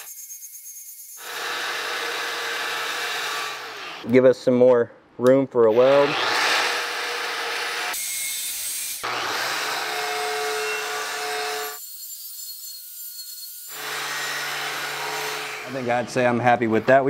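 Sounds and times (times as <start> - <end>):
angle grinder grinding steel: 0.0 - 4.1, 5.6 - 17.0.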